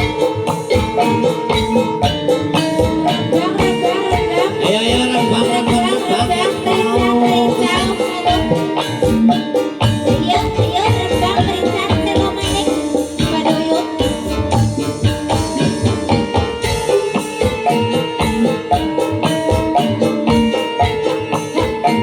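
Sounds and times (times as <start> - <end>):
live dangdut music: 0.0 - 22.0
steady drumbeat: 0.0 - 22.0.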